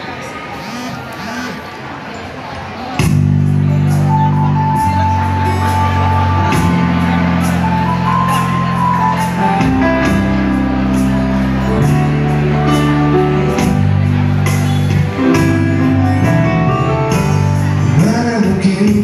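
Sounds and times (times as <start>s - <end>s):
bass line: 3.0s - 19.0s
instrumental melody: 3.0s - 19.0s.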